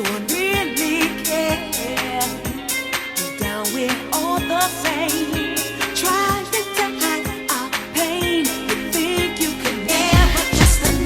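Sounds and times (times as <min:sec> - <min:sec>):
pop song with sung vocal: 0:00.0 - 0:11.0
steady drum beat: 0:00.0 - 0:11.0.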